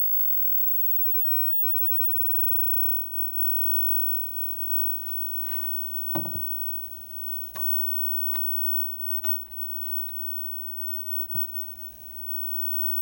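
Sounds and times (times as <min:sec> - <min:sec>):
television hum and hiss: 0:02.0 - 0:13.0.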